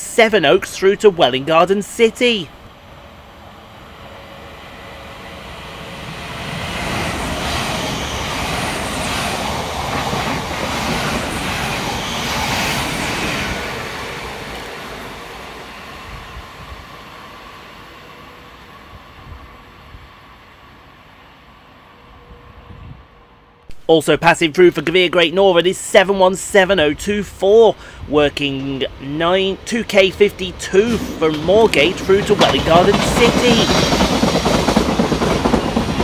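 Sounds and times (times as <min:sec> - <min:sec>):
electric train passing at speed: 0:00.0 - 0:23.7, 0:24.8 - 0:36.0.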